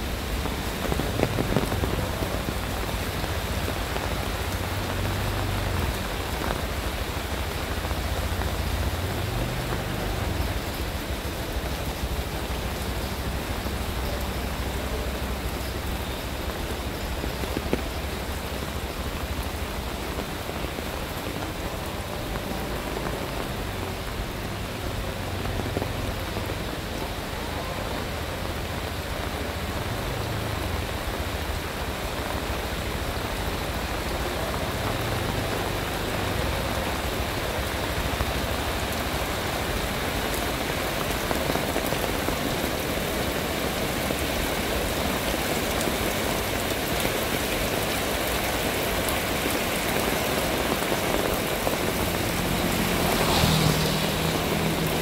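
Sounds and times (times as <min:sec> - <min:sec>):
rain falling on asphalt: 0:00.0 - 0:55.0.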